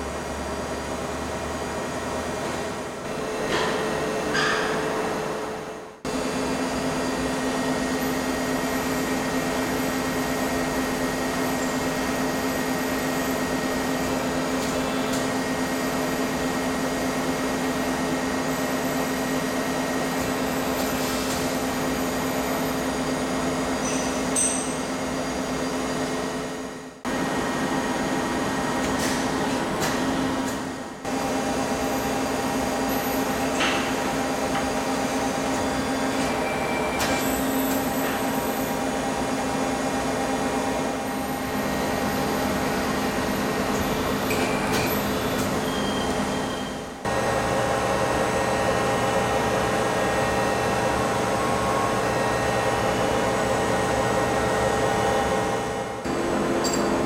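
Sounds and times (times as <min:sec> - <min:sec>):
thread rolling machine humming: 0:06.1 - 0:57.0.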